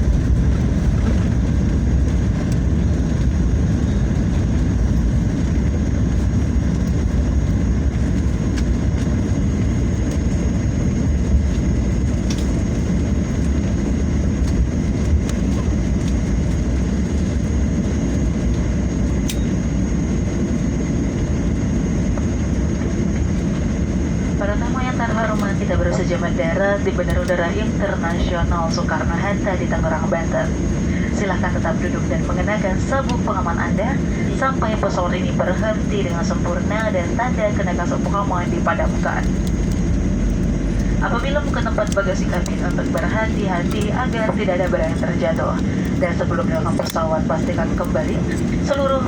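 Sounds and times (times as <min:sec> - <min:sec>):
faint steady whine: 0:00.0 - 0:49.0
jet engine rumble in cabin: 0:00.0 - 0:49.0.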